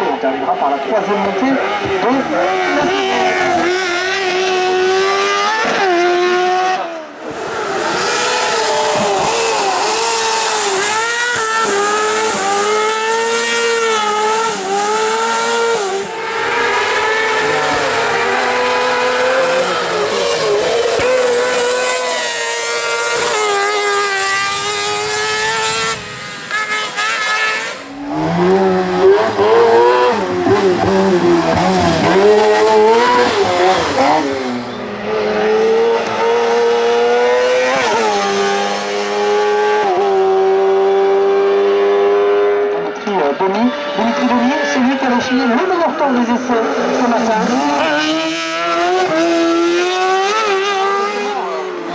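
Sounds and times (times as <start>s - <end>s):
racing buggy engine revving: 0.0s - 51.9s.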